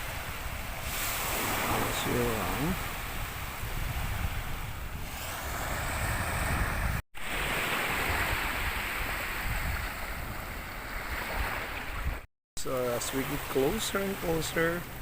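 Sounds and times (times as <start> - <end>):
wind buffeting microphone: 0.0 - 12.3
sea waves washing on beach: 0.0 - 15.0.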